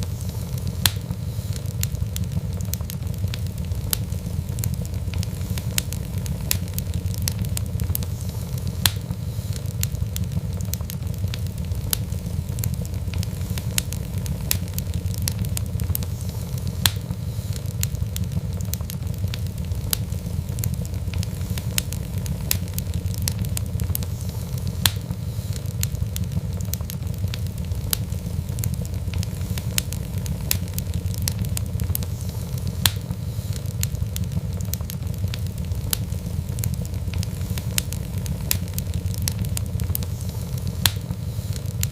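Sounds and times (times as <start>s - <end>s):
fireplace fire crackling: 0.0s - 41.9s
low rumble of flames: 0.0s - 41.9s
sharp pops and snaps: 0.0s - 41.9s.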